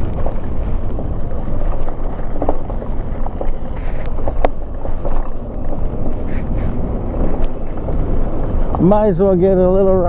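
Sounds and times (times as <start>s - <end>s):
tyres rolling over gravel: 0.0s - 10.0s
wind buffeting microphone: 0.0s - 10.0s.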